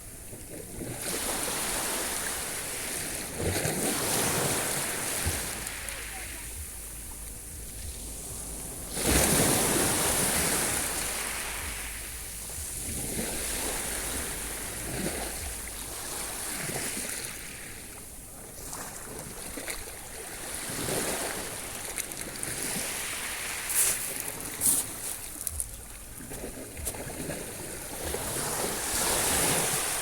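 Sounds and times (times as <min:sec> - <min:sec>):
sea waves breaking on shore: 0:00.0 - 0:30.0.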